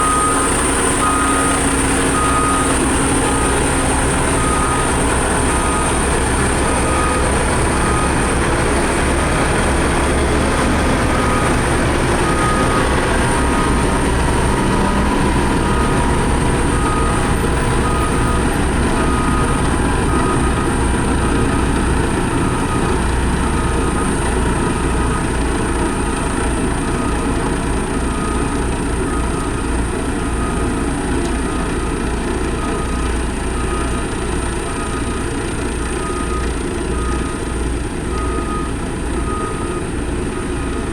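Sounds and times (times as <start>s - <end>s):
diesel engine running: 0.0s - 40.9s
reversing alarm beeping: 0.0s - 40.9s.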